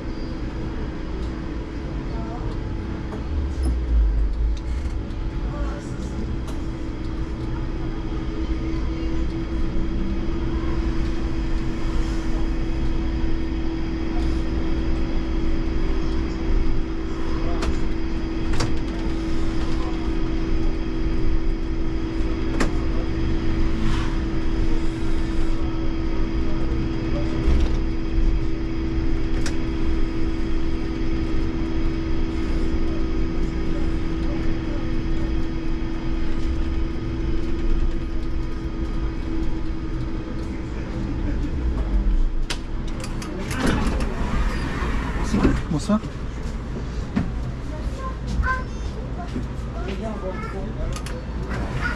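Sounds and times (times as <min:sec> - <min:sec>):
road and tyre rumble: 0:00.0 - 0:50.0
trolleybus electric hum: 0:00.0 - 0:51.9.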